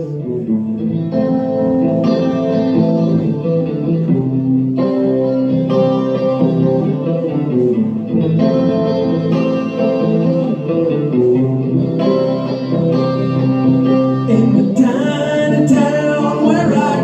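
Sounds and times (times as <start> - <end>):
bass guitars: 0.0 - 17.0
electric guitars holding chords: 0.0 - 17.0.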